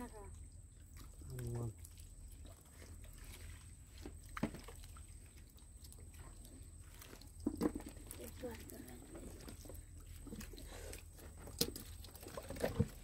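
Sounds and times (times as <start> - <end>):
wet squelching in mud: 0.8 - 13.0.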